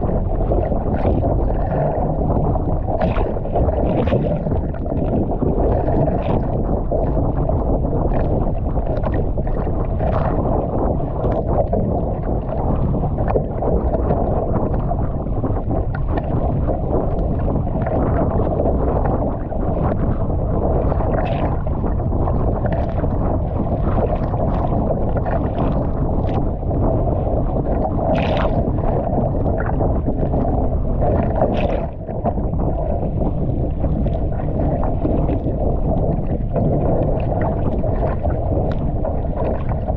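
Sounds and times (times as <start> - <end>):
water slapping against hull: 0.0 - 39.9
wind rumbling on microphone: 0.0 - 39.9.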